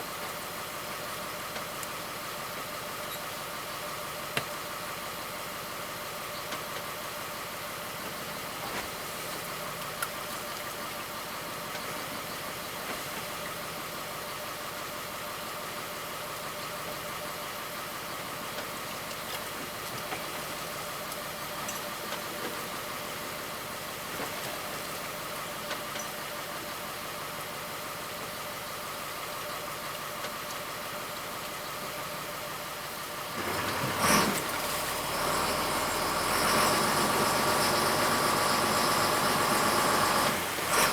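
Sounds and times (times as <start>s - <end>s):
boat engine humming: 8.1s - 40.9s.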